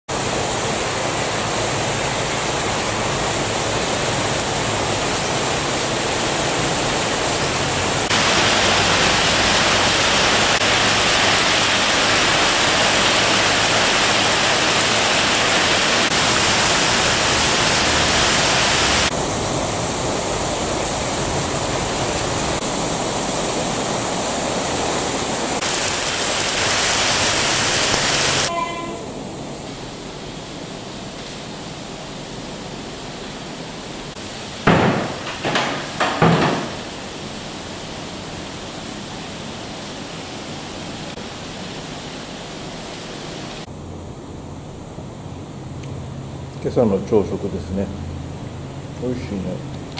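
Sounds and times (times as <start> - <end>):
heavy rain pouring: 0.1 - 49.9.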